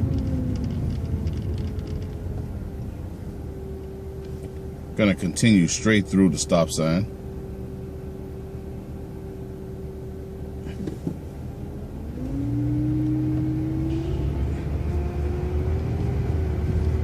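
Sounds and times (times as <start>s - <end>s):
bus engine rumbling: 0.0s - 17.0s
rising engine whine: 0.0s - 17.0s.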